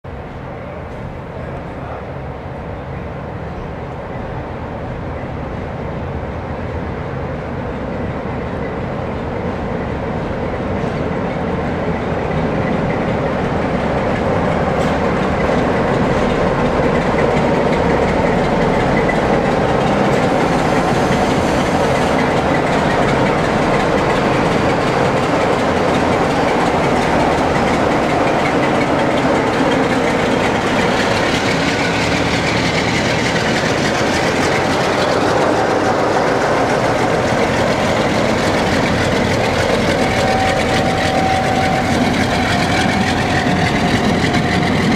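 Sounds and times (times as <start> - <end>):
diesel locomotives pulling away: 0.1 - 44.9
wheels rumbling over rails: 0.1 - 44.9.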